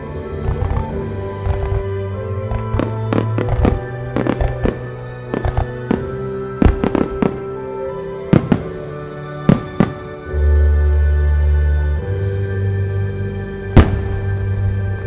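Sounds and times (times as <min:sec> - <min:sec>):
music playing: 0:00.0 - 0:15.0.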